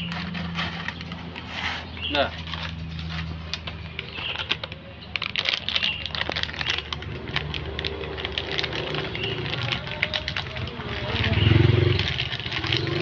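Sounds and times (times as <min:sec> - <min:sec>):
cat crunching dry kibble: 0:00.0 - 0:13.0.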